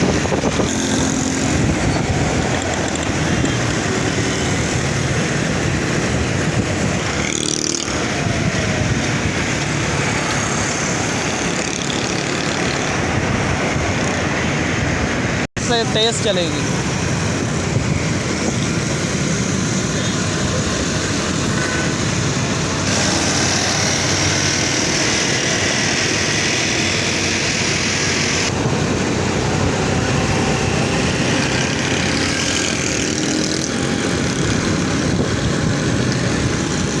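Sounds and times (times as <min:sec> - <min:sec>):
wind on microphone: 0:00.0 - 0:12.0, 0:12.6 - 0:15.4, 0:16.7 - 0:37.0
road and traffic noise: 0:00.0 - 0:37.0.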